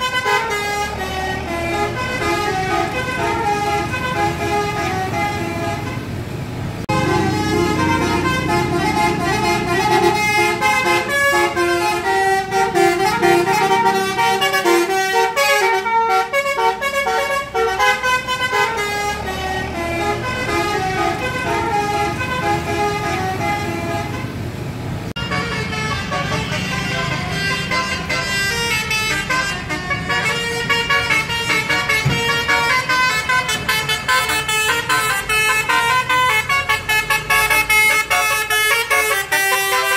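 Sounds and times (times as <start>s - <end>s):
vehicle horn playing a tune: 0.0s - 6.1s, 6.9s - 24.3s, 25.2s - 39.9s
engine noise: 0.0s - 39.9s.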